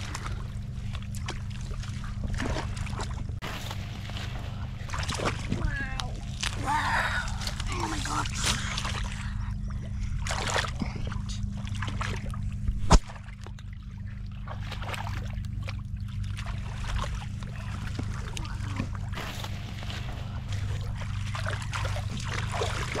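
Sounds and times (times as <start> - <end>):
muddy water sloshing and splashing: 0.0 - 23.0
steady low hum: 0.0 - 23.0.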